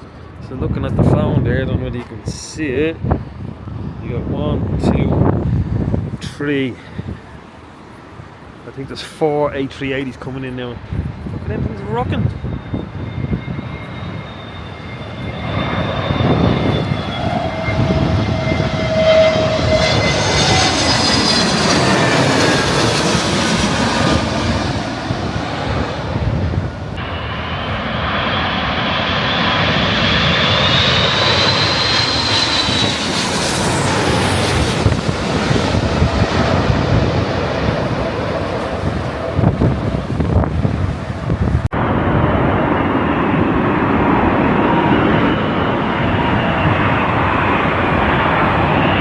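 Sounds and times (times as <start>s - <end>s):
jet engine whine: 0.0s - 49.0s
jet engines rumbling overhead: 0.0s - 49.0s.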